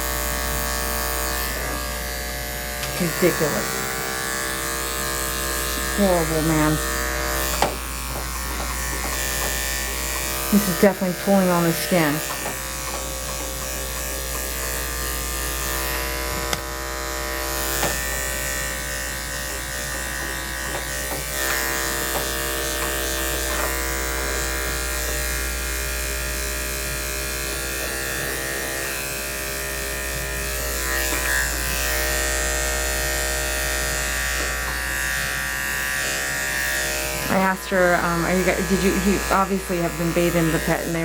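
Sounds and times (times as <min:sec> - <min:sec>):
electric clippers humming: 0:00.0 - 0:41.0.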